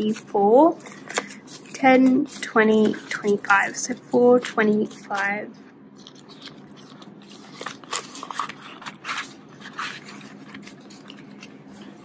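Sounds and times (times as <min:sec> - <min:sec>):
plastic pouch and banknotes crinkling: 0:00.0 - 0:12.0.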